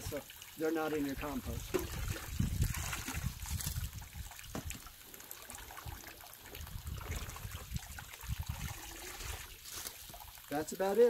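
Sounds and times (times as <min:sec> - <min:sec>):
muddy water trickling: 0:00.0 - 0:11.0.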